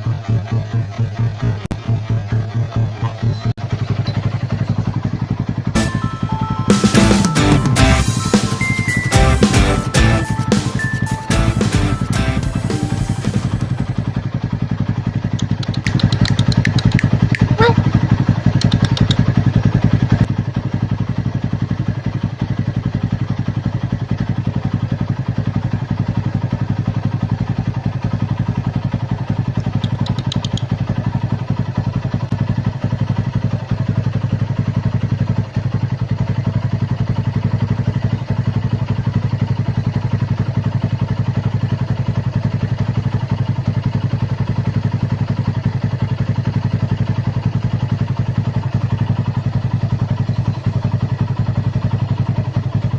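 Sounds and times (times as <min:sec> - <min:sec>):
engine idling: 0:00.0 - 0:06.2, 0:07.1 - 0:52.9.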